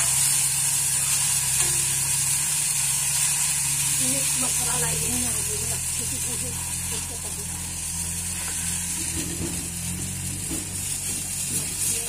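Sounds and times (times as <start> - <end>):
patties sizzling in hot oil: 0.0 - 12.0.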